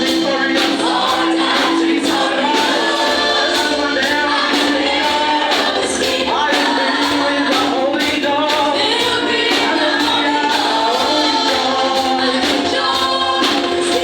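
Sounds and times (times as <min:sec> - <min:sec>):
band music with steady beat: 0:00.0 - 0:14.0
voices singing: 0:00.0 - 0:14.0.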